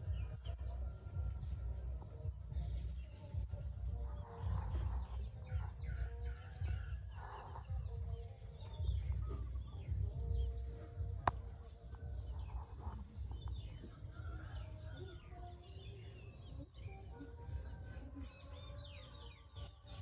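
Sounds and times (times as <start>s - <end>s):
low microphone rumble: 0.0s - 20.0s
small birds chirping: 0.0s - 20.0s.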